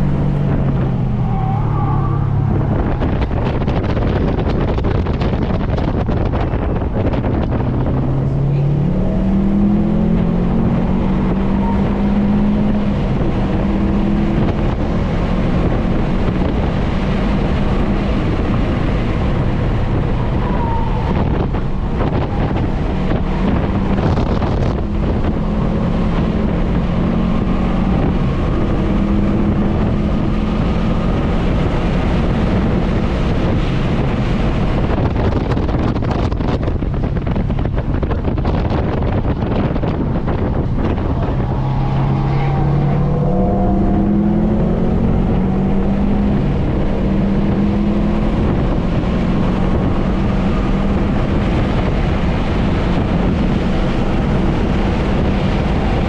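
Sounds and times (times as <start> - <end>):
car engine running hard: 0.0 - 56.0
wind and road noise: 0.0 - 56.0.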